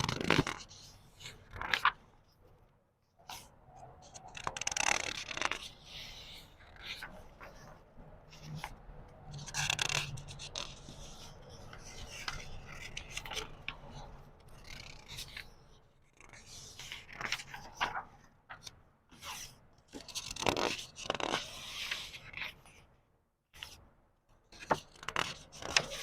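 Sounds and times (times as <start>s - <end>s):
book pages being turned: 0.0s - 2.4s, 3.2s - 22.9s, 24.5s - 26.0s.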